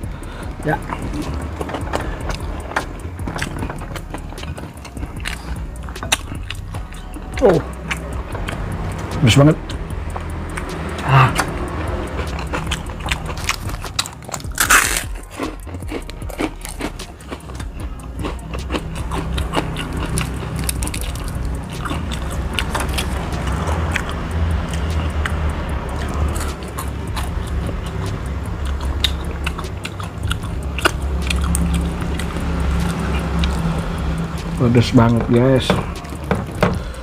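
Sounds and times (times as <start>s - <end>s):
person chewing crunchy food: 0.0s - 34.6s
steady low hum: 0.0s - 37.0s.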